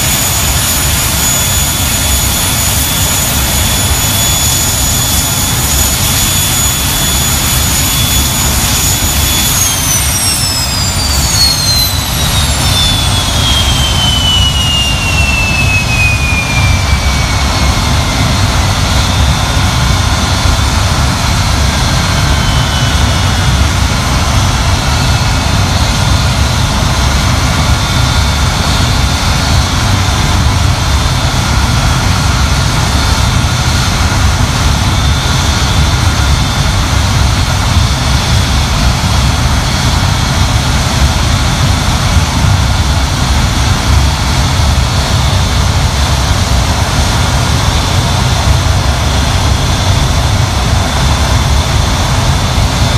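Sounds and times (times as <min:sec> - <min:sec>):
jet engines deep rumble: 0:00.0 - 0:52.9
turbine whine falling in pitch: 0:00.0 - 0:52.9.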